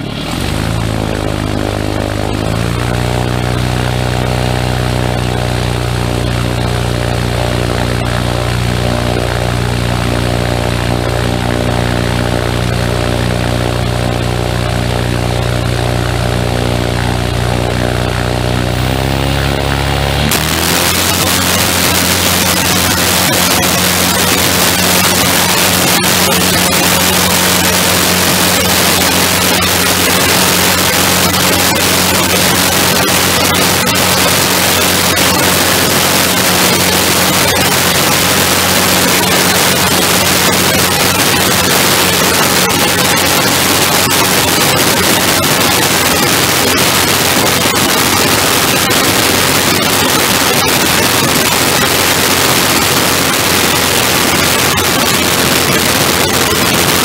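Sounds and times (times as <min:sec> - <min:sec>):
engine and propeller drone: 0:00.0 - 0:57.0
wind noise on microphone: 0:00.8 - 0:57.0.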